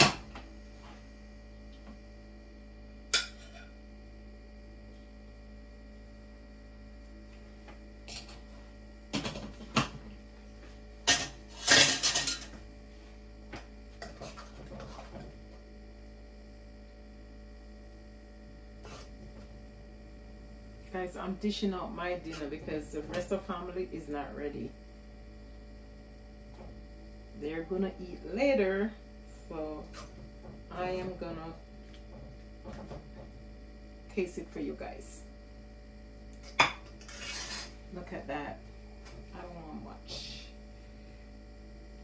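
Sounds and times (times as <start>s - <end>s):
faint hum: 0.0s - 42.0s.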